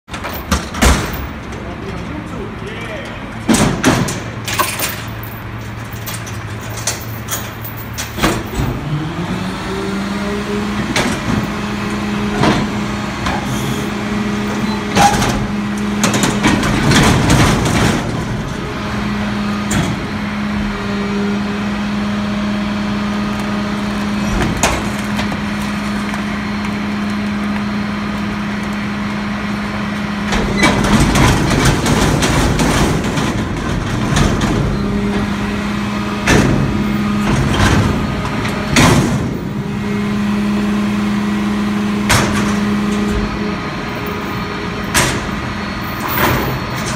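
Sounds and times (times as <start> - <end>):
dumpster clanks and bangs: 0.1 - 2.3, 3.1 - 9.1, 10.6 - 22.1, 23.6 - 27.1, 29.6 - 46.9
diesel truck engine idling: 0.4 - 46.9.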